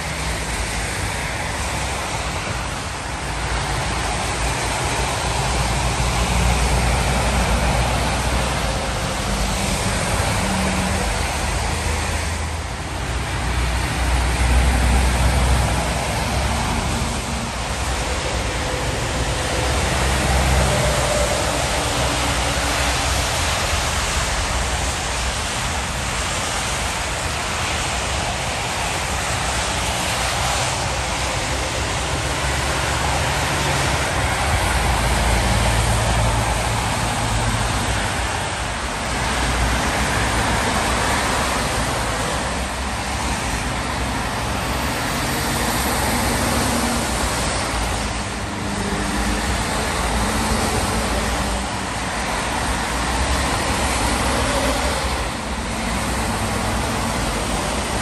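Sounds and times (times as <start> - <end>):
lorries rumbling past: 0.0 - 58.0
tyre hiss on wet road: 0.0 - 58.0.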